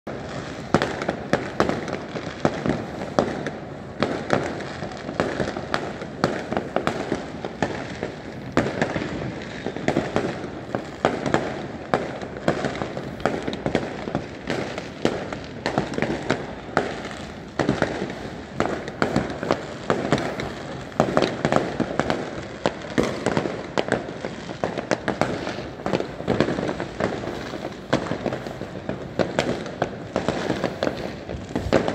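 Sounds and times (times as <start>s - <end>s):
distant fireworks rumble: 0.1s - 31.9s
fireworks bangs and pops: 0.1s - 31.9s.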